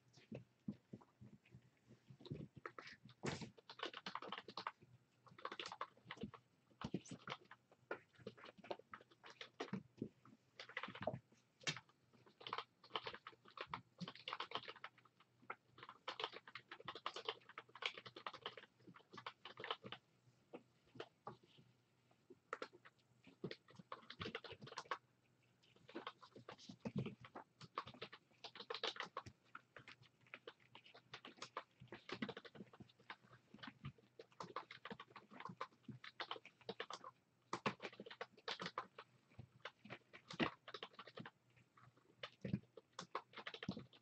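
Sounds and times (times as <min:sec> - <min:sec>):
kitten claws clicking and scratching: 0:00.0 - 0:20.0, 0:22.3 - 0:44.0.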